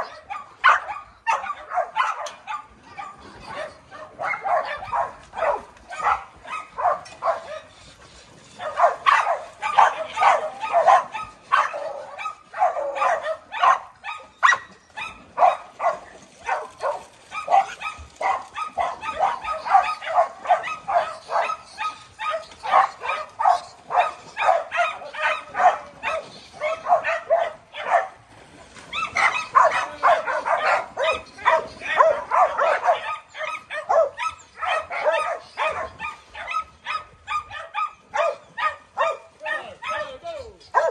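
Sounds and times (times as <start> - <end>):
dogs barking and yipping: 0.0 - 40.9.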